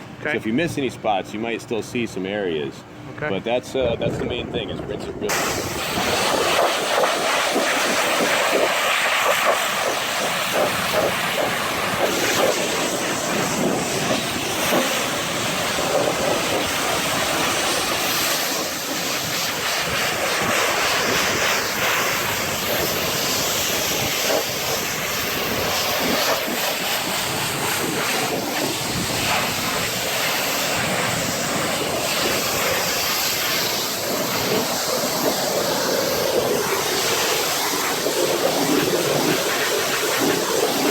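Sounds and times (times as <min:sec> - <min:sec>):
pressure washer spraying water: 0:05.3 - 0:40.9.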